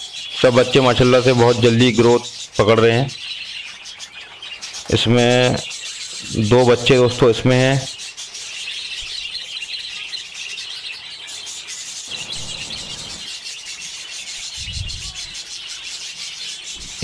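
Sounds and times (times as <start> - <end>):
budgerigars chirping: 0.0 - 17.0.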